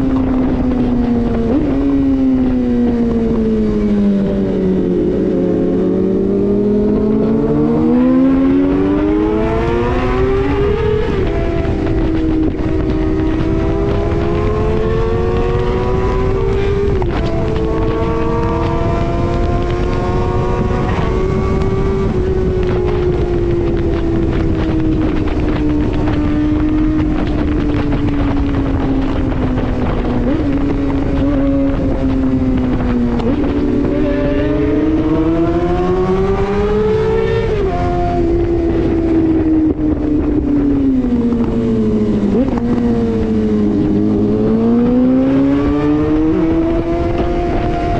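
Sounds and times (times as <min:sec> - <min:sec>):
motorcycle engine revving: 0:00.0 - 0:47.9
wind on microphone: 0:00.0 - 0:47.9.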